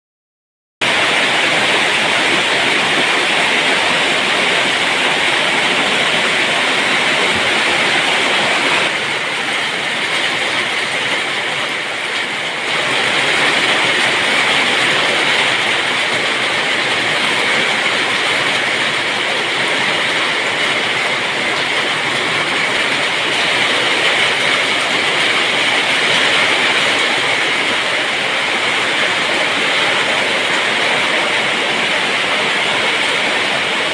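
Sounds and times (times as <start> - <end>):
heavy rain pouring: 0.8 - 33.9.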